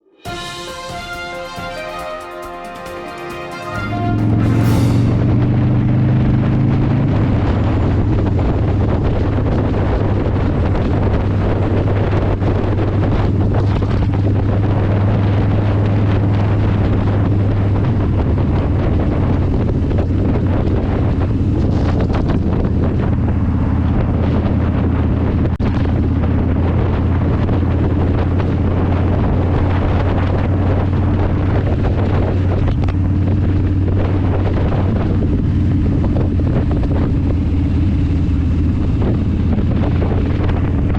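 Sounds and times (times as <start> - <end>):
motorcycle engine drone: 3.7 - 40.9
wind blasting microphone: 3.8 - 40.9.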